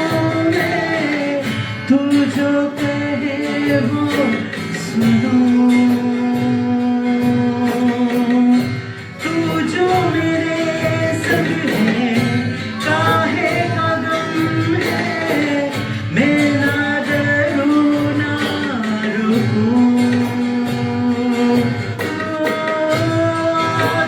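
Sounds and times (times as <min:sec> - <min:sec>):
person singing long held notes: 0:00.0 - 0:24.0
worship band playing: 0:00.0 - 0:24.0.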